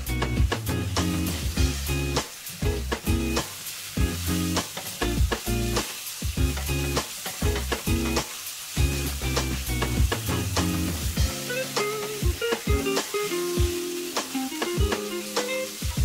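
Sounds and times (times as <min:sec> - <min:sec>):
background music: 0:00.0 - 0:05.8, 0:08.8 - 0:16.0
meat sizzling in a wok: 0:00.0 - 0:16.0.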